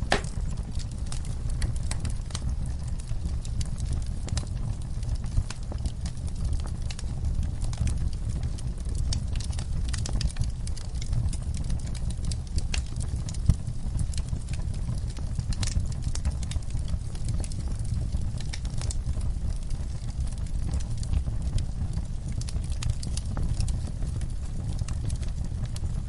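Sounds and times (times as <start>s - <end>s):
campfire crackling and popping: 0.0s - 26.0s
low steady rumble: 0.0s - 26.0s.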